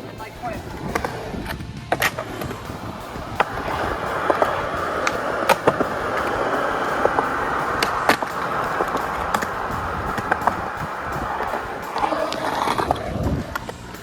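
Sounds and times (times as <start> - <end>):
skateboard clacking on ground: 0.0 - 14.0
skateboard wheels rolling on concrete: 0.0 - 14.0.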